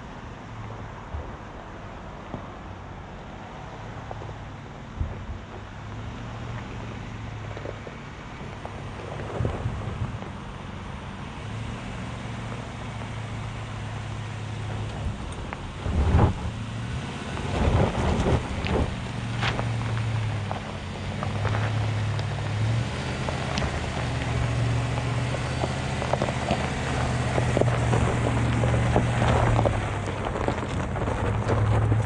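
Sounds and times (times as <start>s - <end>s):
pickup engine pulling: 4.1s - 32.0s
tyres crunching over rock and gravel: 5.5s - 32.0s.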